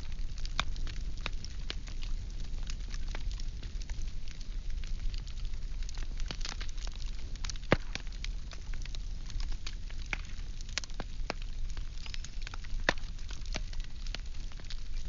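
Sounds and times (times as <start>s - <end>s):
firewood crackling and popping: 0.0s - 15.0s
low rumble of fire: 0.0s - 15.0s.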